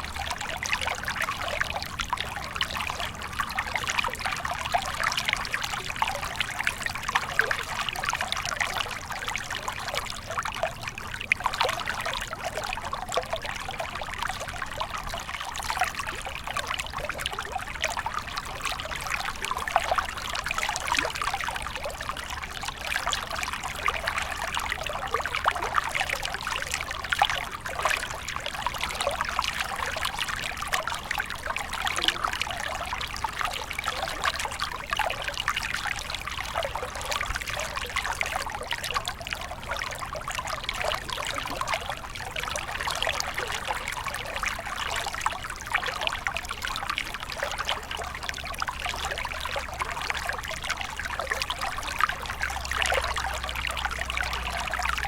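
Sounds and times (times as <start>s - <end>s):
small stream babbling: 0.0s - 55.0s.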